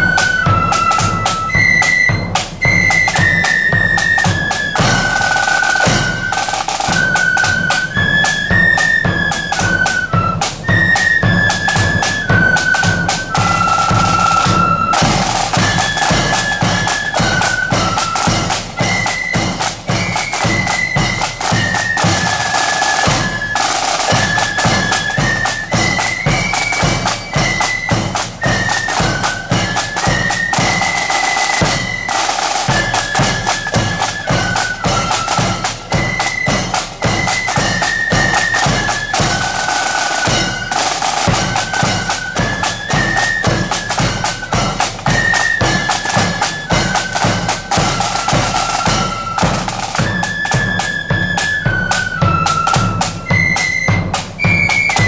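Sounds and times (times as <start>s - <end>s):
high flutes playing a tune: 0.0s - 55.0s
snare and bass drum beats: 0.0s - 55.0s.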